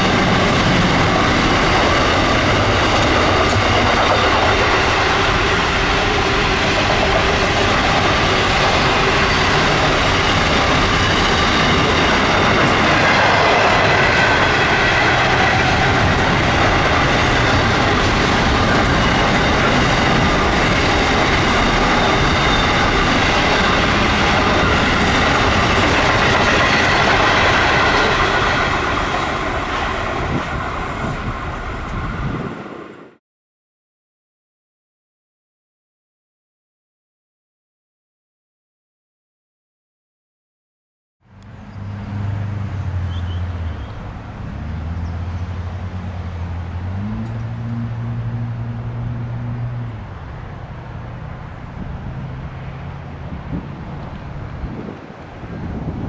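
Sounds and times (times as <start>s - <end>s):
freight train wheels on rails: 0.0s - 33.2s, 41.3s - 56.0s.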